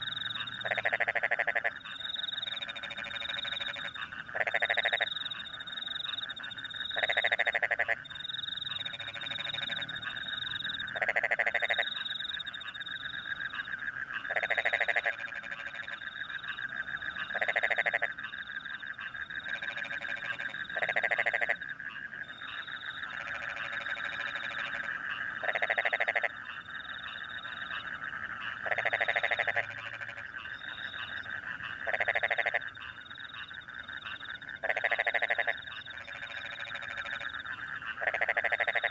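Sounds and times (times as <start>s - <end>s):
crickets chirping: 0.0s - 38.9s
frog trill chorus: 0.0s - 38.9s
frogs croaking: 0.0s - 38.9s.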